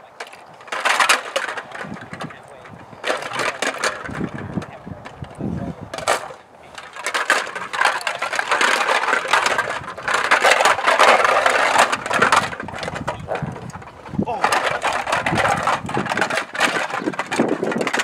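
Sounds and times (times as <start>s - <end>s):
plastic bottles rattling: 0.2s - 18.0s.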